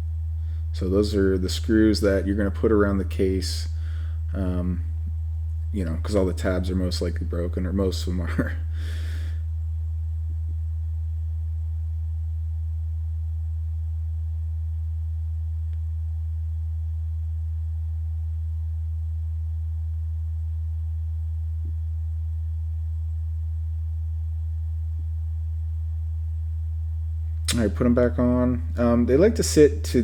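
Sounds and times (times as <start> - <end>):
low-pitched hum: 0.0 - 30.0.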